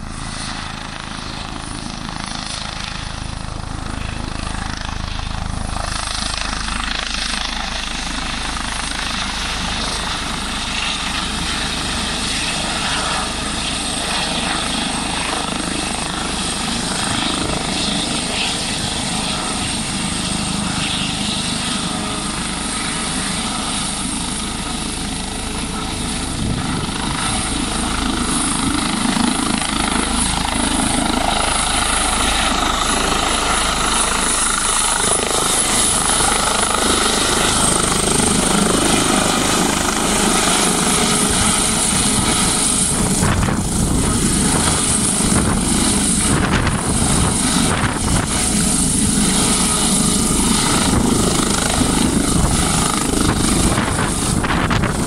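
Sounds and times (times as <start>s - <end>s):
helicopter rotor and engines: 0.0s - 55.0s.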